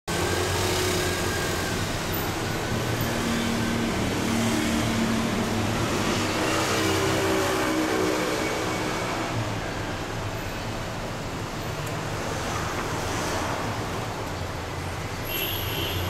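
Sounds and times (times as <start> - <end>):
road traffic passing: 0.1 - 16.0.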